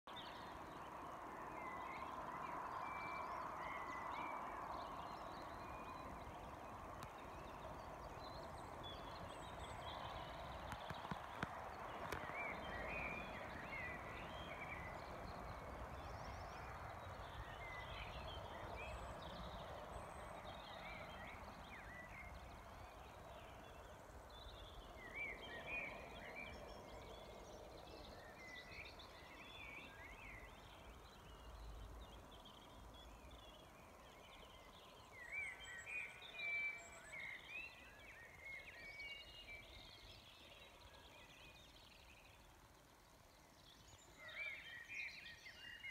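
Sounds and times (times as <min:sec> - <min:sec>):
faint steady background hiss: 0:00.1 - 0:45.9.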